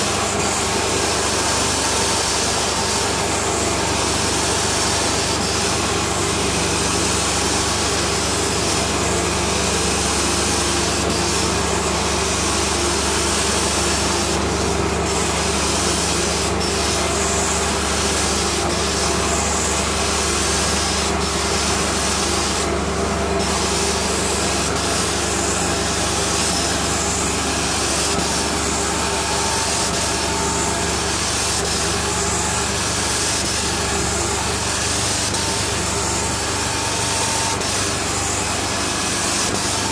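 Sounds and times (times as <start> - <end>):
carpet cleaner suction and spray: 0.0 - 39.9.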